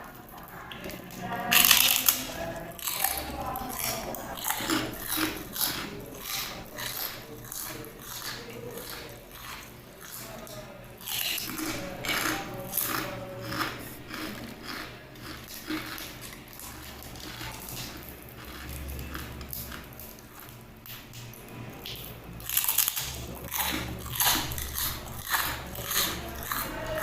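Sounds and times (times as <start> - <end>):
chewing crispy pork rinds: 0.0 - 27.0.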